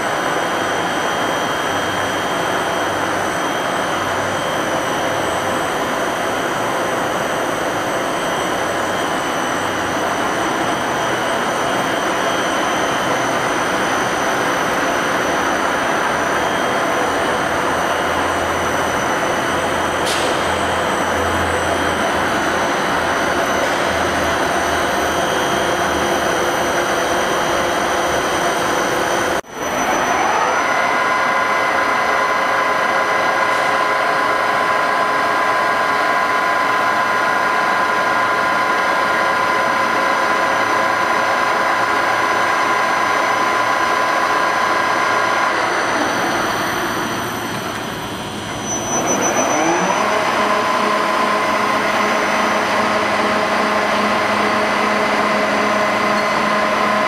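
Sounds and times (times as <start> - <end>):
electric drive whine: 0.0 - 57.0
machine noise: 0.0 - 57.0.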